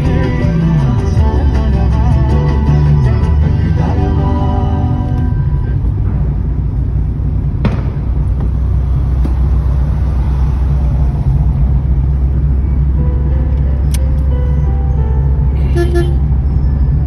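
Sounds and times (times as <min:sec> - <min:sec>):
car driving rumble from inside: 0:00.0 - 0:17.0.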